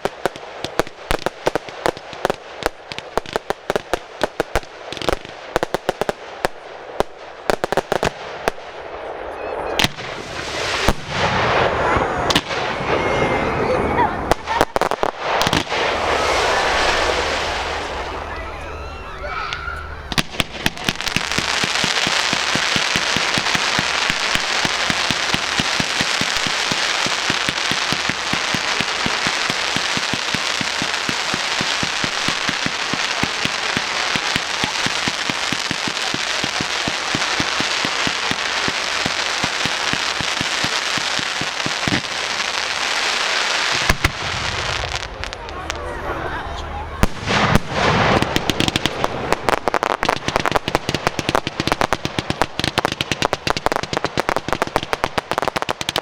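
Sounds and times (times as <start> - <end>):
fireworks cracking and banging: 0.0 - 56.0.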